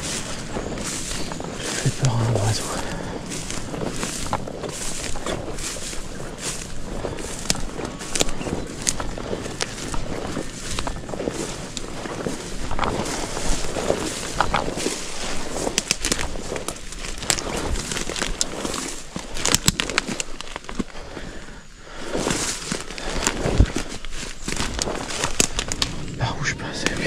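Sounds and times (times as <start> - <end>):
twigs snapping underfoot: 0.0 - 21.0, 22.2 - 26.0
footsteps through undergrowth: 0.0 - 27.0
leaves and brush rustling: 0.0 - 27.0.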